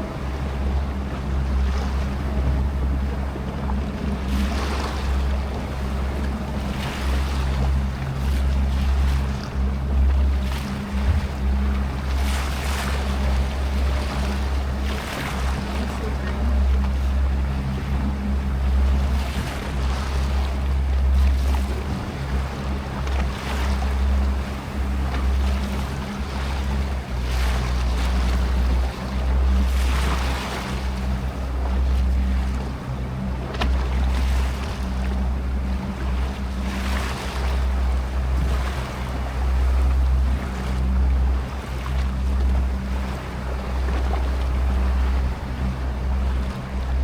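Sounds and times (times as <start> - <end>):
motorboat engine running: 0.0 - 47.0
water washing past hull: 0.0 - 47.0.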